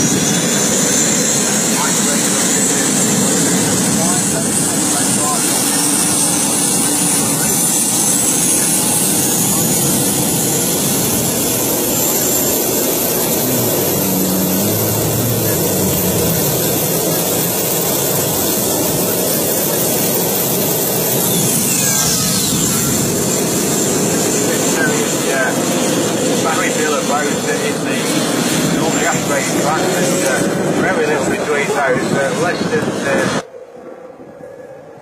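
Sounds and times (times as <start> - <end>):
turbine engine whine: 0.0 - 35.0.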